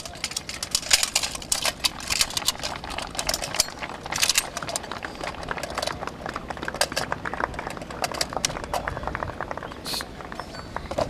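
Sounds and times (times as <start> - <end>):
metallic clicks and clacks: 0.0 - 9.5.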